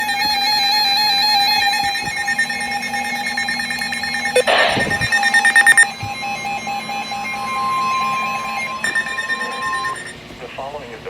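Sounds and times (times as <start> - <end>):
electronic alert alarm beeps: 0.0 - 10.1.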